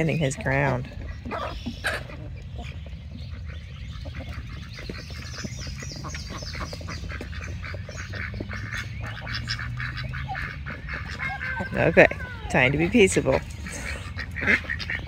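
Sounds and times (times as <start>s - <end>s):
chickens clucking: 0.0s - 15.0s
duck quacking: 0.0s - 15.0s.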